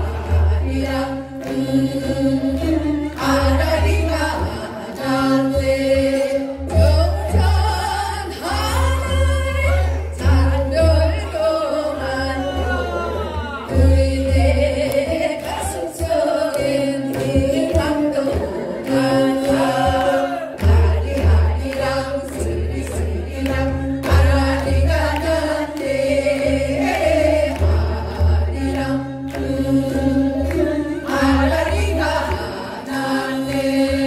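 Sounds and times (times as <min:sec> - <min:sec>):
women singing folk song: 0:00.0 - 0:34.0.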